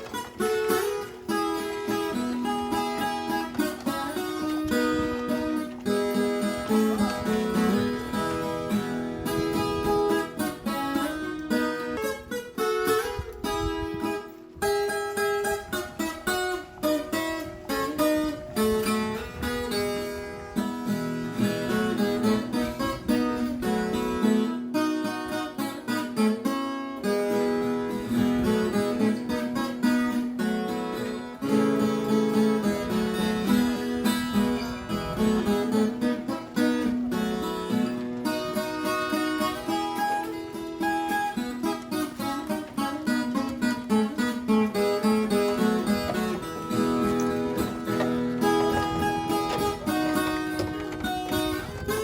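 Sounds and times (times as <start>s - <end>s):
acoustic guitar strummed and plucked: 0.0s - 52.0s.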